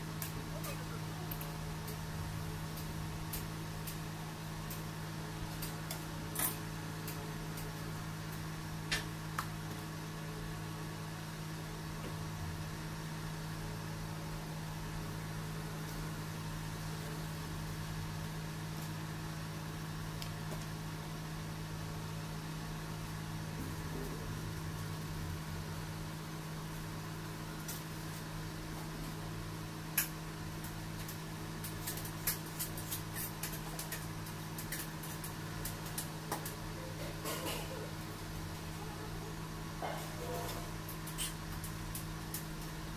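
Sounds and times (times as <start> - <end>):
low machine hum: 0.0 - 42.9.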